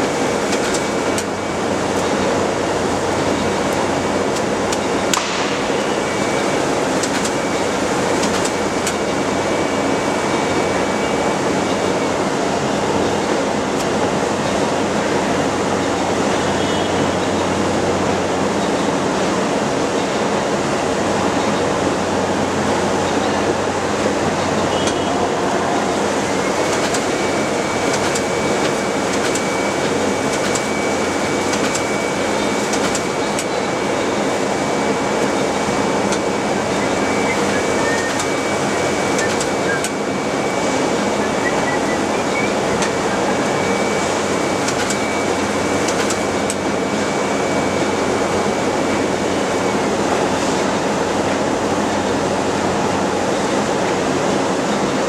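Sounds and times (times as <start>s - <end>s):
packaging machine humming: 0.0s - 55.0s.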